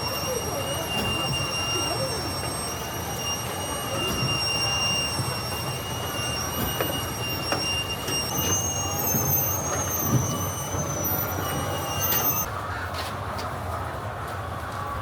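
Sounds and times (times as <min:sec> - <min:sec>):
high squealing tones: 0:00.0 - 0:12.5.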